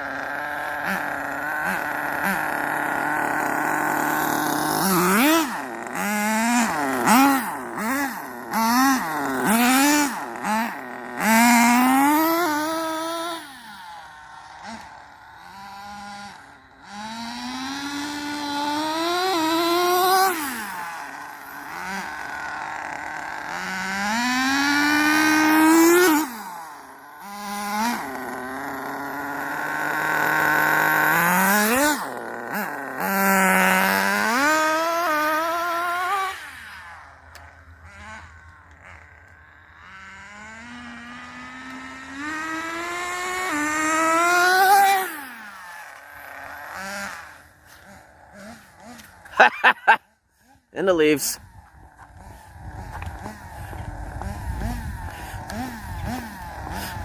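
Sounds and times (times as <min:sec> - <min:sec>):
electric motor and gears whining: 0:00.0 - 0:57.0.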